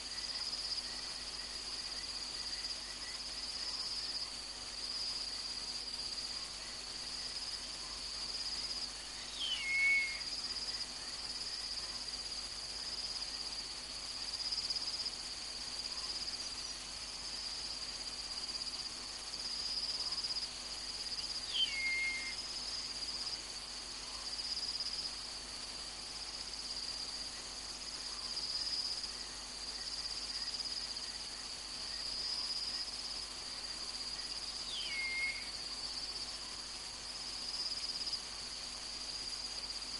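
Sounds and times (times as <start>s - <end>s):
night insects chirring: 0.0s - 39.9s.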